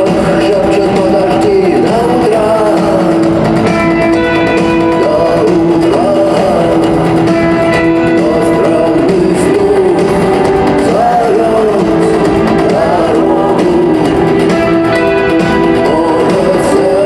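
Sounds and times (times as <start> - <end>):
drums: 0.0 - 17.0
electric guitars: 0.0 - 17.0
person singing: 0.0 - 17.0.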